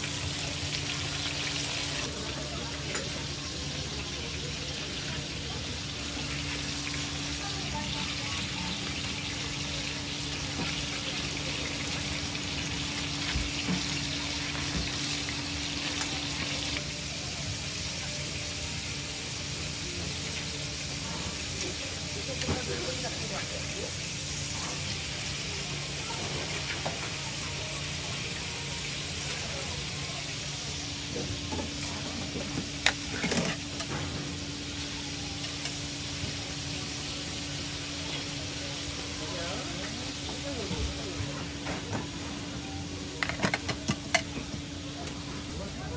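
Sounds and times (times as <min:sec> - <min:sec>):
meat patties sizzling on griddle: 0:00.0 - 0:45.9.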